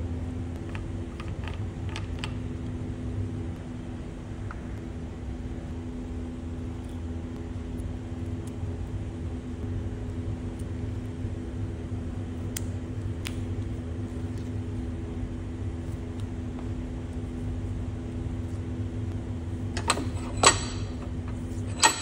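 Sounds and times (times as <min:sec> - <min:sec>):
mechanical hum with held tones: 0:00.0 - 0:22.0.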